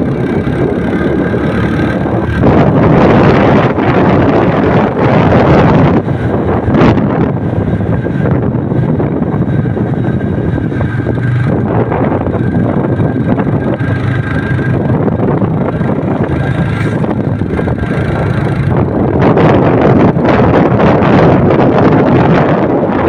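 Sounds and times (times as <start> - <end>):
motorbike engine running: 0.0 - 23.0
wind buffeting microphone: 0.0 - 23.0.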